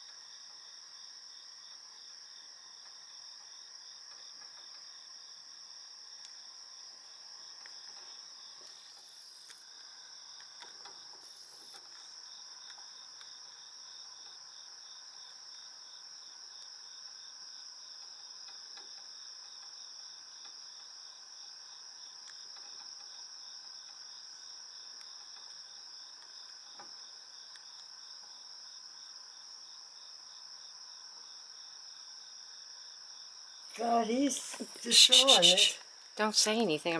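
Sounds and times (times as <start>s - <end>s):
crickets trilling and chirping: 0.0s - 36.9s.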